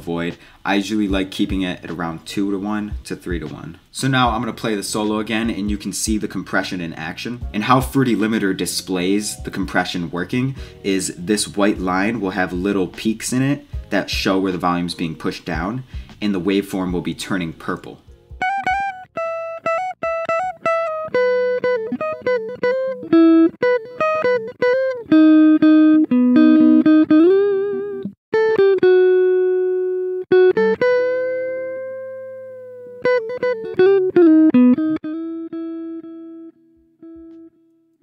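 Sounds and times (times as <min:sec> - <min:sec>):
solo guitar plucked notes: 0:00.0 - 0:38.0.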